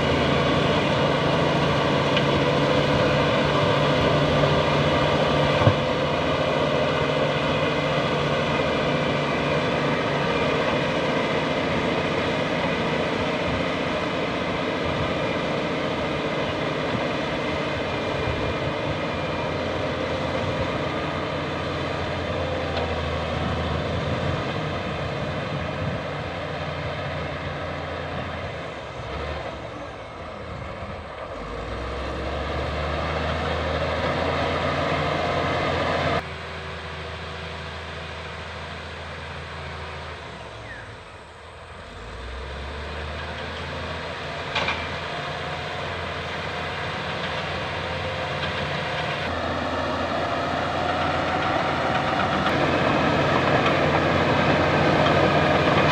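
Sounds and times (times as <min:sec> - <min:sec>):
bulldozer diesel engine under load: 0:00.0 - 0:55.9.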